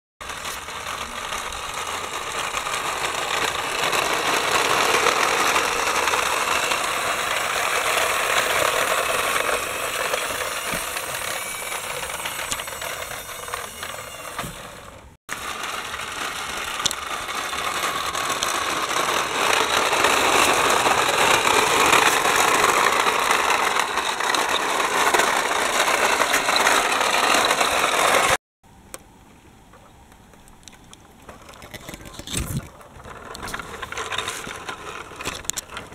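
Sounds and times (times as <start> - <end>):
plastic toy wheels grinding on concrete: 0.2 - 28.4, 30.6 - 35.9.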